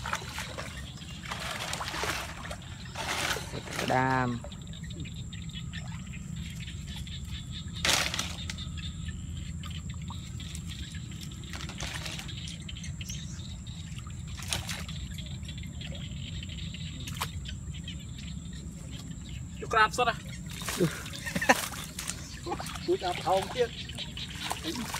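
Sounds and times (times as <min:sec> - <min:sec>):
muddy water sloshing and splashing: 0:00.0 - 0:24.9
steady low rumble: 0:00.0 - 0:24.9.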